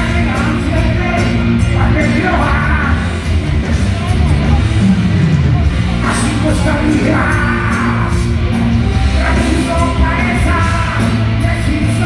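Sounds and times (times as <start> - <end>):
man singing: 0.0 - 4.6, 6.0 - 8.4, 9.0 - 12.0
drums: 0.0 - 12.0
electric guitars: 0.0 - 12.0
live hard rock band: 0.0 - 12.0.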